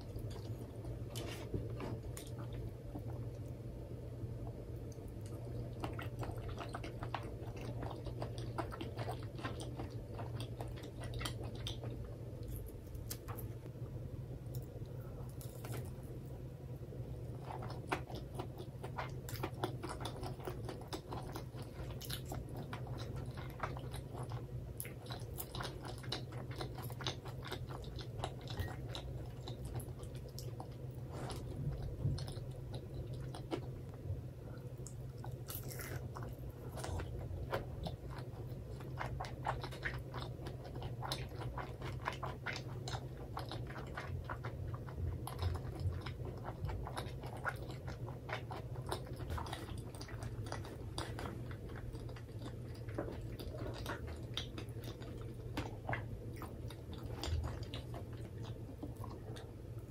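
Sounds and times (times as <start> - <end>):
low steady hum: 0.0 - 59.9
crunchy chewing: 5.0 - 13.6, 14.5 - 16.2, 17.3 - 34.0, 34.8 - 59.9.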